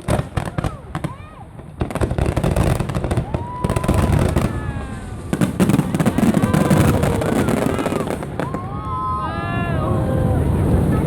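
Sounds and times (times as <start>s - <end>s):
fireworks bangs and crackles: 0.0s - 9.1s.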